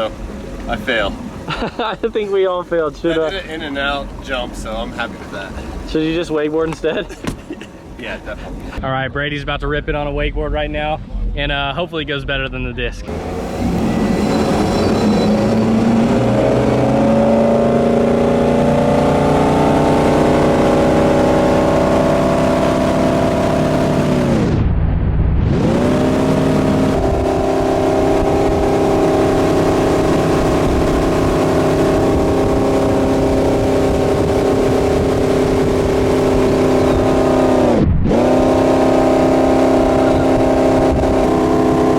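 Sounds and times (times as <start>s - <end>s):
boat engine drone: 0.0s - 9.2s, 13.0s - 24.5s, 25.6s - 41.9s.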